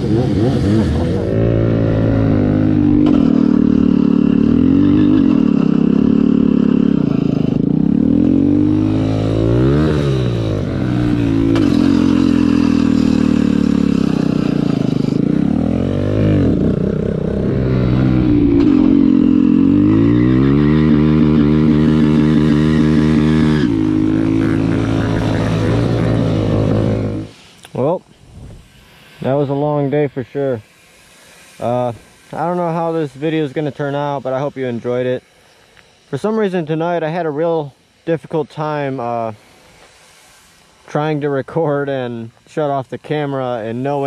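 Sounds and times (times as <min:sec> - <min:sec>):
small motorcycle engine revving: 0:00.0 - 0:38.0.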